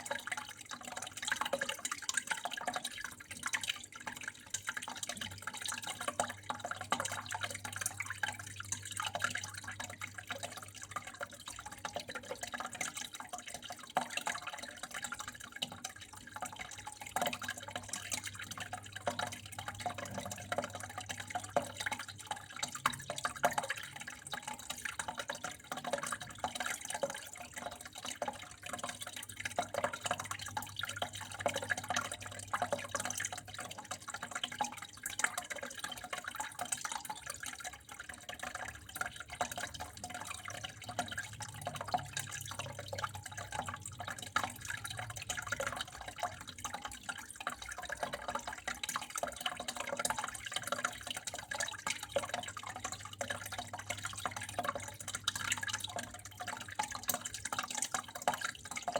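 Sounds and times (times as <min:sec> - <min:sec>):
water flowing and dripping: 0:00.0 - 0:58.9.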